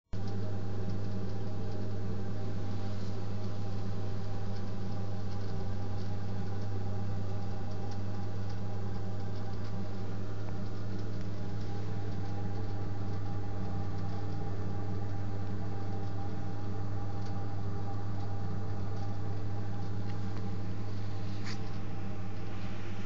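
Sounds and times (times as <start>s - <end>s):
gas boiler humming: 0.1s - 23.0s
boiler hiss: 0.2s - 23.0s.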